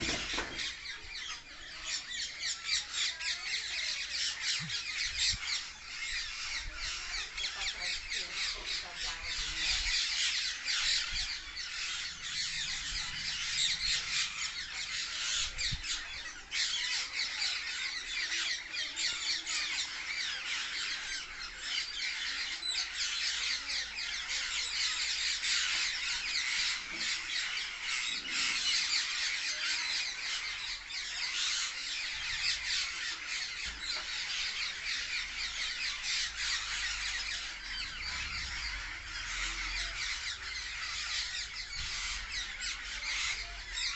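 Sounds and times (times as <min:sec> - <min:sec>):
parrots screeching and chattering: 0:00.0 - 0:43.9.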